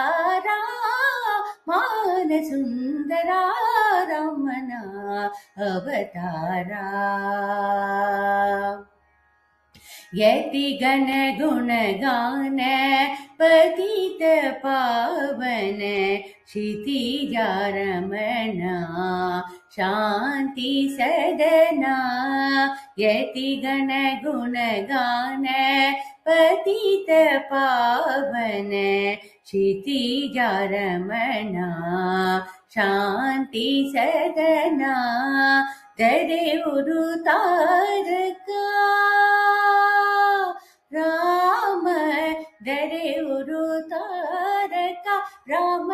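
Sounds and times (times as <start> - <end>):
woman singing unaccompanied: 0.0 - 8.8, 10.0 - 45.9.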